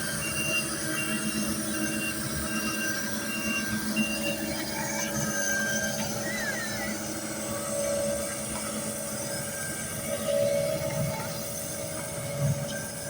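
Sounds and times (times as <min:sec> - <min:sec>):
construction machinery droning: 0:00.0 - 0:13.0
high metallic squeals: 0:00.0 - 0:13.0.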